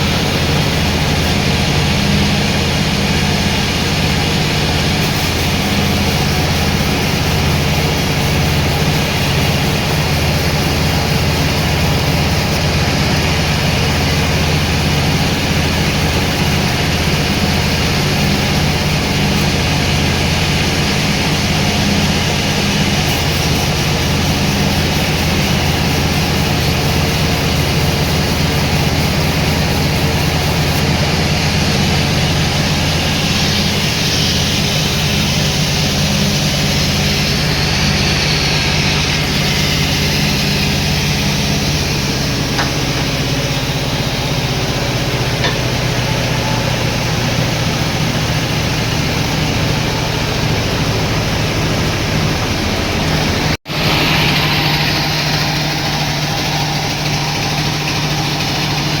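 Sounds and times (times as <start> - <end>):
broad rushing noise: 0.0 - 59.0
low motor hum: 0.0 - 59.0.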